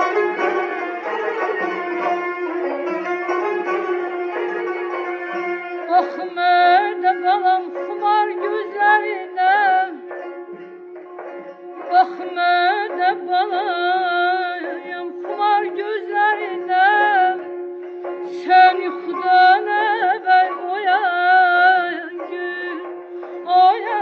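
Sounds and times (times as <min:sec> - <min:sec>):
ornamented folk melody: 0:00.0 - 0:24.0.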